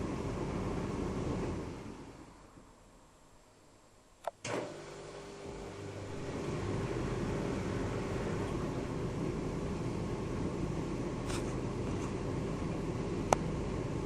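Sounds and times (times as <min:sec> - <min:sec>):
washing machine motor humming: 0:00.0 - 0:02.7, 0:04.4 - 0:14.0.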